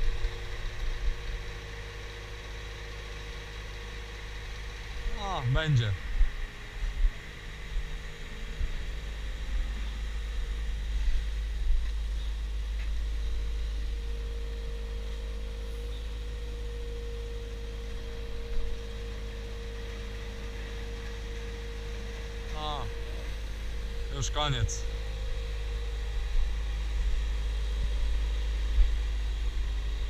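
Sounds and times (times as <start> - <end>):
steady whine: 0.0 - 30.0
truck engine and vacuum pump: 0.0 - 30.0.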